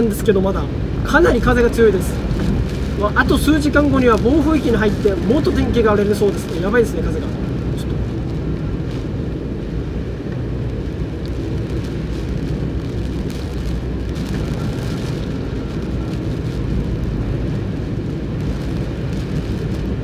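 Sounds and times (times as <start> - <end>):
strong wind against car: 0.0 - 20.0
tyres on wet road: 0.0 - 20.0.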